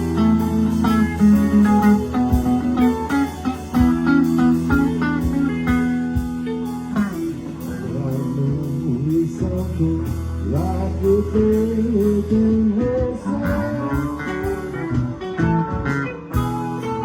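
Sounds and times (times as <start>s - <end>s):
bass: 0.0s - 17.0s
drums: 0.0s - 17.0s
electric guitar lead line: 0.0s - 17.0s.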